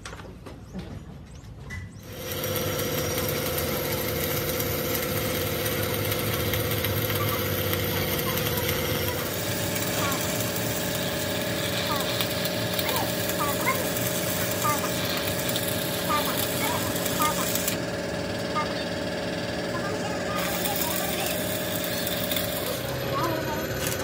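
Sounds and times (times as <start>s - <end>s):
welding arc hissing: 2.0s - 24.0s.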